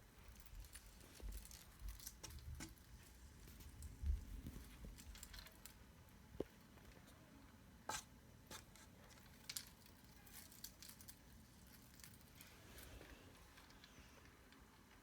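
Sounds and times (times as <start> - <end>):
ceiling fan hum: 0.0 - 15.0.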